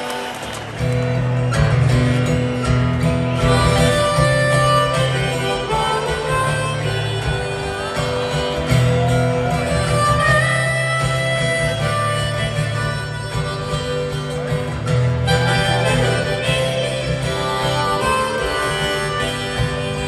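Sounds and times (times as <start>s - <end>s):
acoustic guitar strumming: 0.0s - 20.0s
harmonica-like melody: 0.0s - 20.0s.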